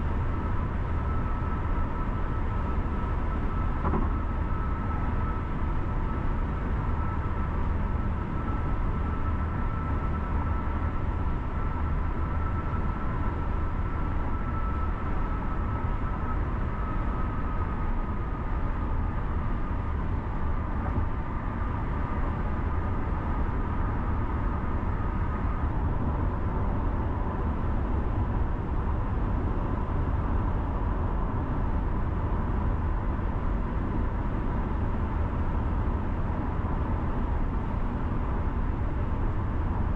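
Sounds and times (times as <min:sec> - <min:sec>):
faint high whine: 0:00.0 - 0:35.8.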